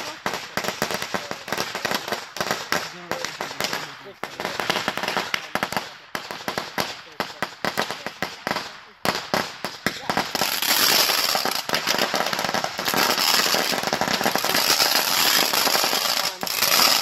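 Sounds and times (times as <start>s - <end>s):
firecrackers banging: 0.0s - 17.0s.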